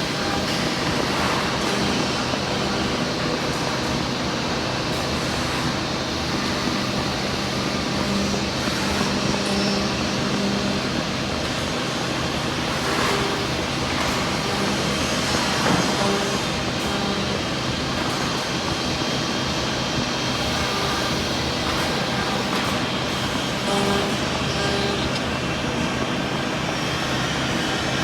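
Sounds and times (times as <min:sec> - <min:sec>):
drilling and milling machine running: 0:00.0 - 0:28.0.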